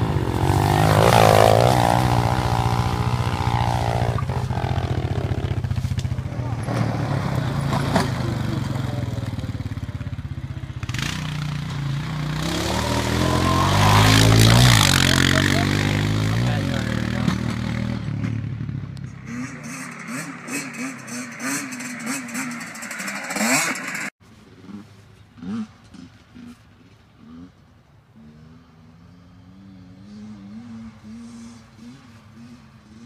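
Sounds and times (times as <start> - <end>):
dirt bike engine revving: 0.0 - 27.6, 28.2 - 33.0
quad engine driving past: 0.0 - 33.0.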